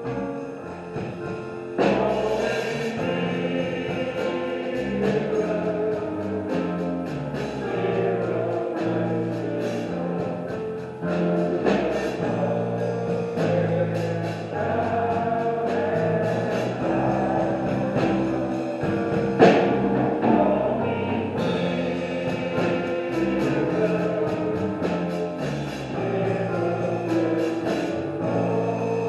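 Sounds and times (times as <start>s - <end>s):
church band playing gospel music: 0.0s - 29.0s.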